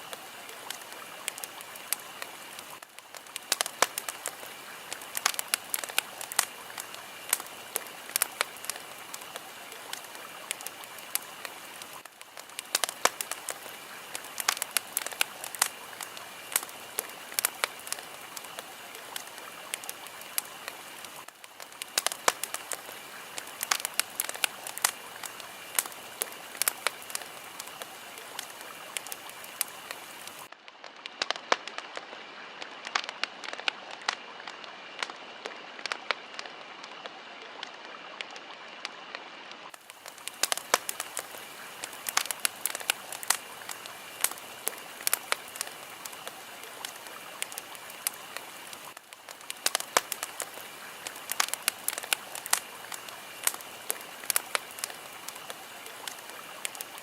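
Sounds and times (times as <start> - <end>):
fire crackling and popping: 0.0 - 57.0
steady fire hiss: 0.0 - 57.0.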